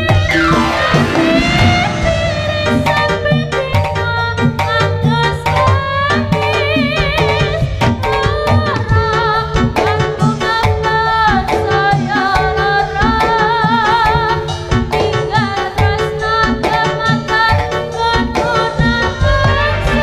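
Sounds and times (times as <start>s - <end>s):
gamelan percussion: 0.0s - 20.0s.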